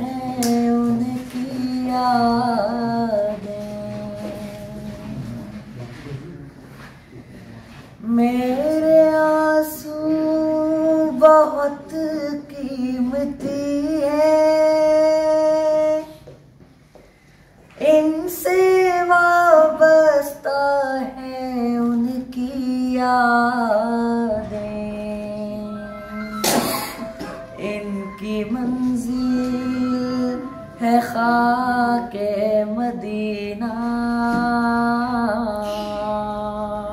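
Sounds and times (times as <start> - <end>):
boy singing into microphone: 0.0 - 5.9, 8.0 - 16.6, 17.7 - 36.9.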